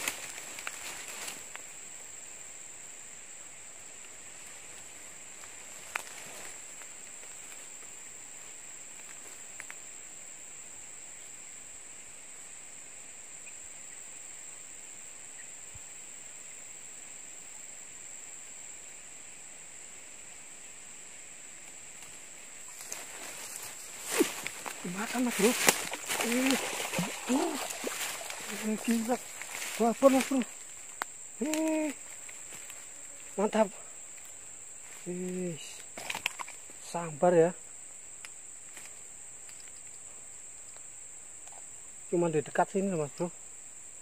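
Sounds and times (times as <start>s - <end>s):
insects shrilling: 0.0s - 44.0s.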